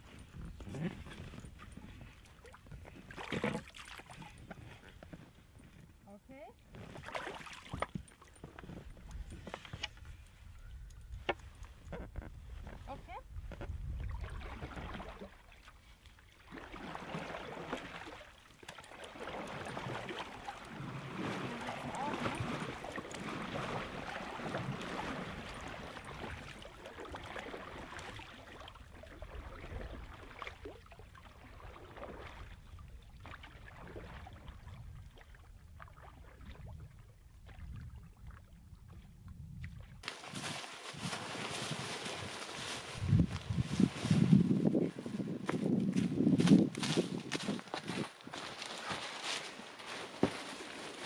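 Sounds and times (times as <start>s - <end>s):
water splashing around canoe: 0.0s - 6.0s, 6.6s - 10.2s, 11.2s - 51.0s.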